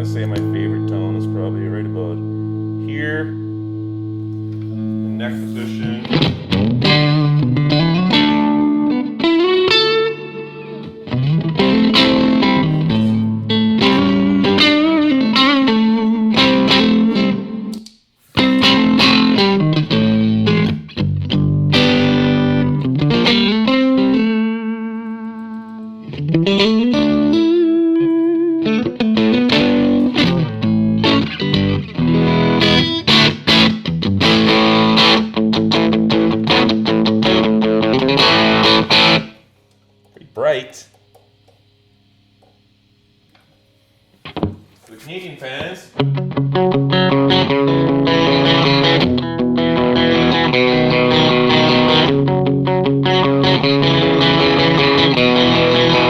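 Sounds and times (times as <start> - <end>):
electric guitar lines with bends: 0.0 - 43.6, 44.2 - 44.7, 45.4 - 56.0.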